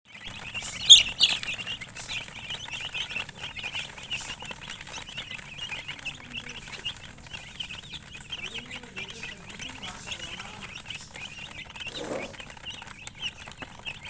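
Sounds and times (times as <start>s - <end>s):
chickens chirping: 0.1s - 14.0s.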